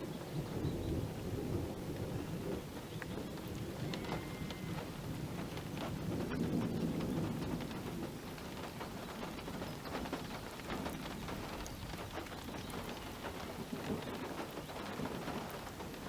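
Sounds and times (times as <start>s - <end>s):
heavy rain pattering on surface: 0.0s - 16.0s
thunder rumble: 0.0s - 16.0s.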